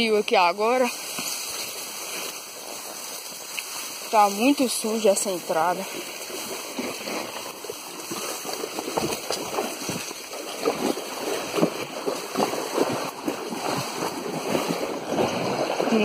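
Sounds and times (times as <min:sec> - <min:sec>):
water splashing around horses: 0:00.0 - 0:16.0.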